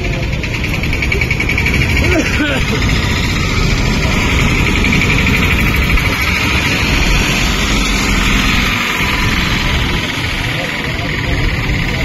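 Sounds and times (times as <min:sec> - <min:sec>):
loud noisy rumble: 0:00.0 - 0:12.0.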